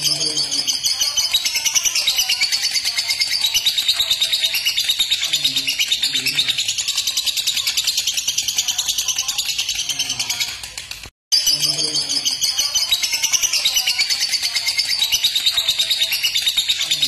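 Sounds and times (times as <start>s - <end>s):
lovebird chattering high chirps: 0.0s - 17.0s.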